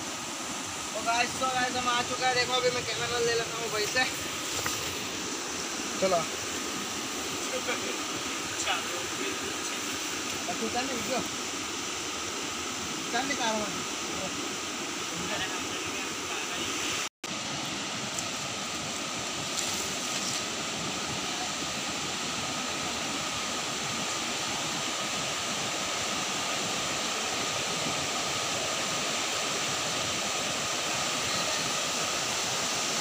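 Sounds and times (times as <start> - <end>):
river water rushing over rocks: 0.0 - 33.0.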